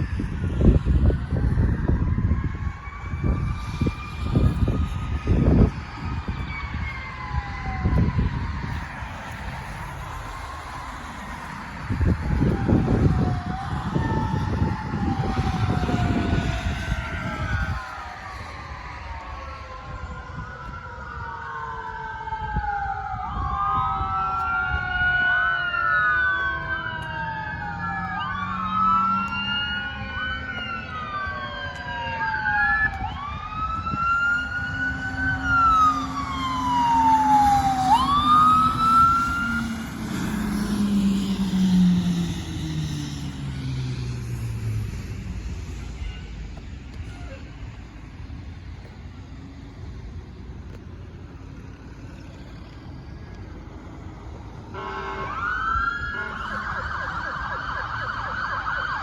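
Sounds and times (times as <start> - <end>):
fire truck sirens wailing: 0.0 - 59.0
vehicle rumble: 0.0 - 59.0.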